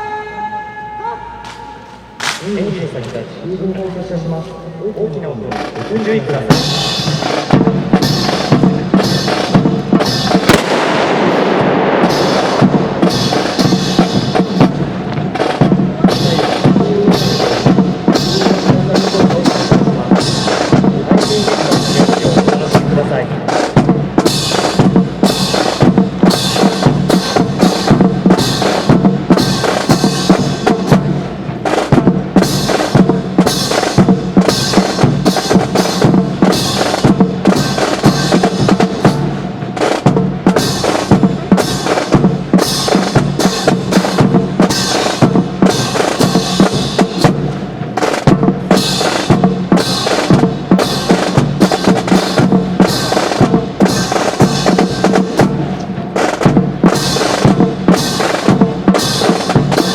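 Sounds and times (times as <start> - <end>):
marching snare and bass drums: 1.4 - 59.9.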